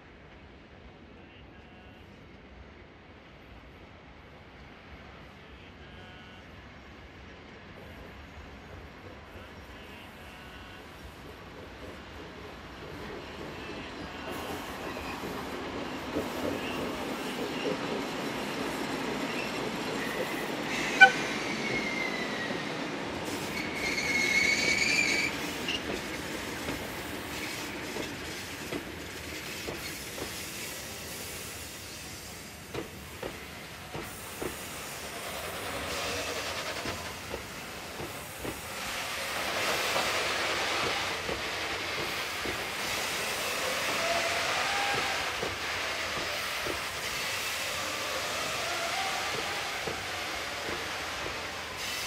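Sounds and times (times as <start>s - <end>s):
freight train rolling by: 0.0s - 52.0s
train wheel squeal: 7.8s - 52.0s.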